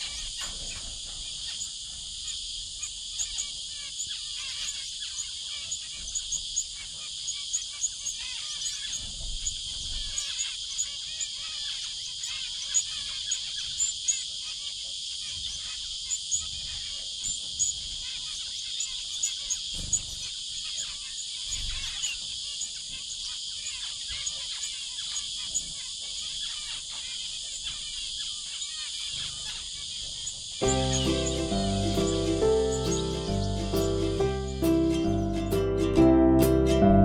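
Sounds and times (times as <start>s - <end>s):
high insect drone: 0.0s - 35.0s
finches chirping: 0.0s - 35.9s.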